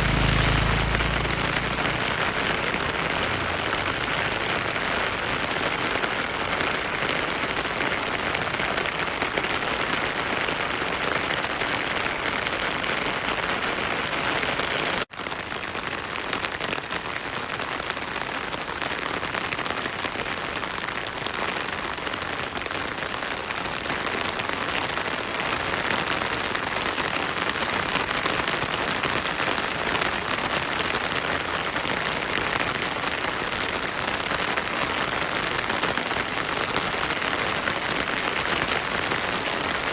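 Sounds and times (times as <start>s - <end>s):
heavy rain in forest: 0.0s - 39.9s.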